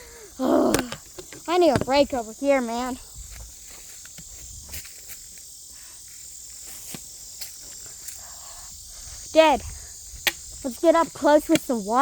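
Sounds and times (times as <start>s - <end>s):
insects chirping chorus: 0.0s - 12.0s.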